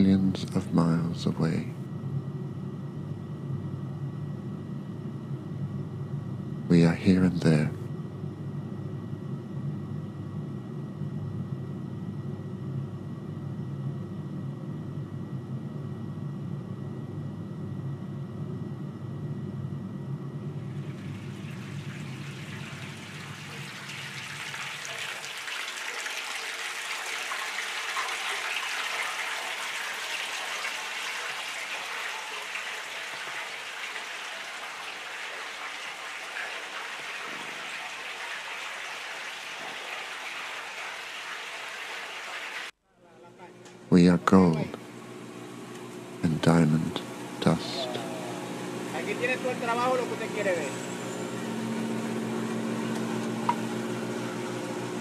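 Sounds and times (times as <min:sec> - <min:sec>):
steady low hum: 0:00.0 - 0:40.3, 0:42.7 - 0:55.0.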